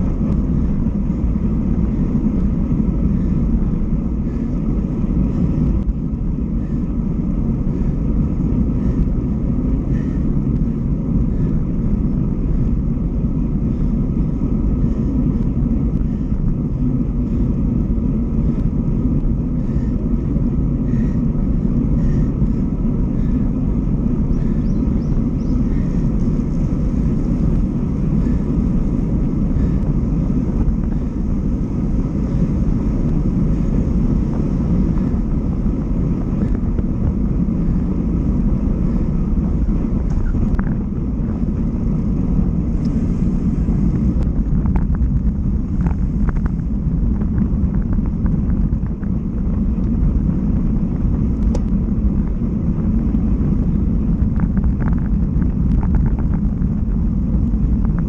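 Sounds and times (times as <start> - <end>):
bike road noise: 0.0 - 58.0
wind on microphone: 0.0 - 58.0.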